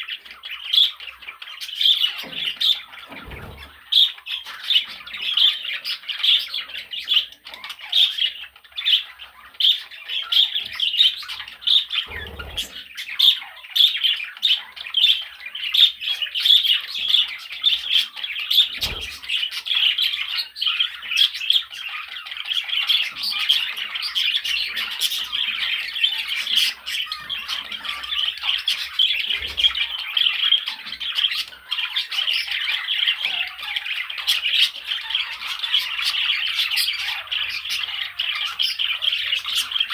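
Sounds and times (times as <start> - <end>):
budgerigar chattering and warbling: 0.0 - 39.9.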